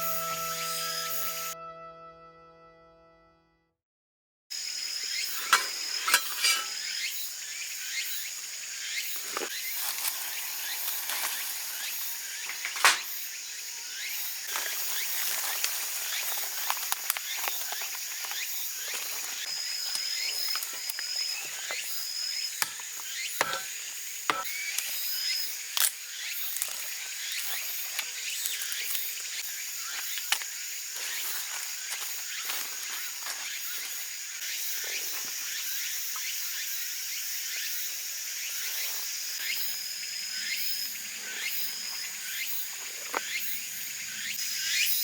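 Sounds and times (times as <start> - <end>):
insect tone: 4.6 - 45.0.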